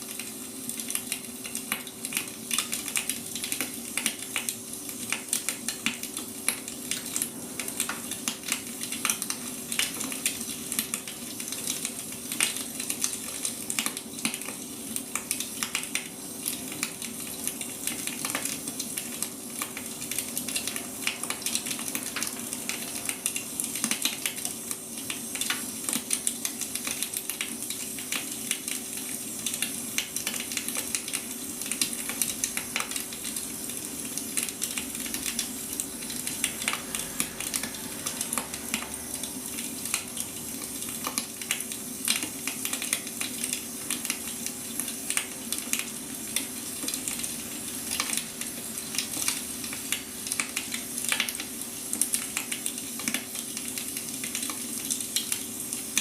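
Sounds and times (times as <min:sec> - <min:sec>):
steady hiss: 0:00.0 - 0:56.0
wood fire crackling and popping: 0:00.0 - 0:56.0.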